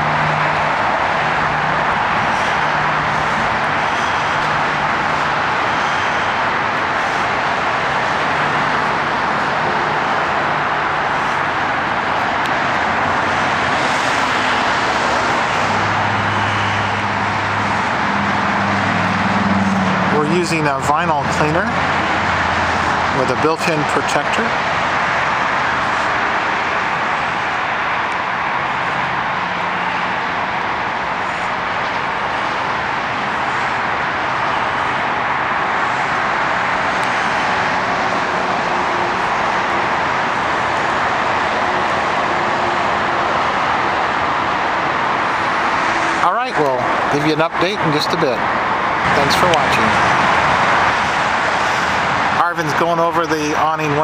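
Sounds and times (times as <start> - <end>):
heavy freeway traffic roar: 0.0 - 54.0.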